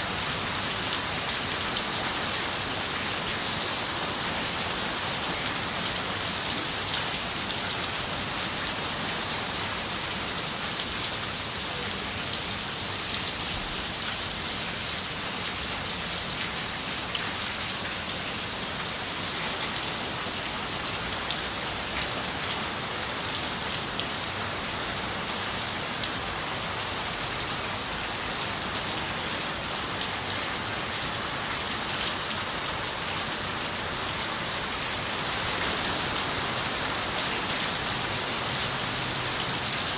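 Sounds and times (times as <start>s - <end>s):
rain on a window: 0.4s - 39.9s.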